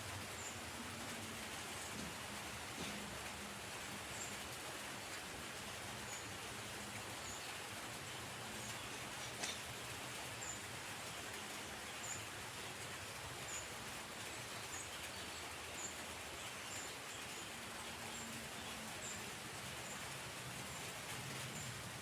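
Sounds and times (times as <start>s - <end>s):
wind and rustling foliage: 0.0s - 22.0s.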